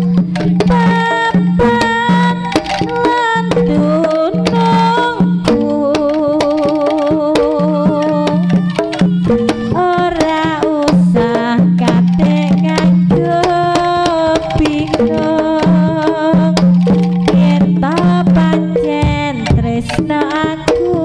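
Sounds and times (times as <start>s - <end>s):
hand drum strokes: 0.0s - 21.0s
wavering lead melody: 0.0s - 21.0s.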